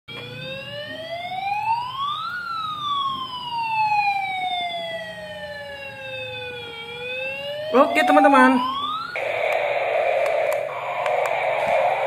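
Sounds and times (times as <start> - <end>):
toy electronic siren wailing: 0.2 - 12.0.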